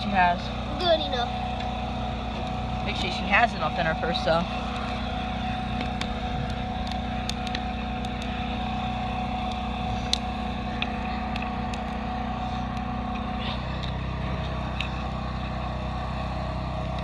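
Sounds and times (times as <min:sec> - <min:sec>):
generator engine humming: 0:00.0 - 0:17.0.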